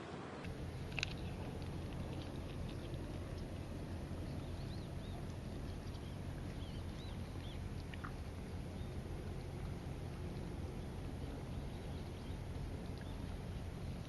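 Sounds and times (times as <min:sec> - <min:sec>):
small birds chirping: 0:00.5 - 0:14.0.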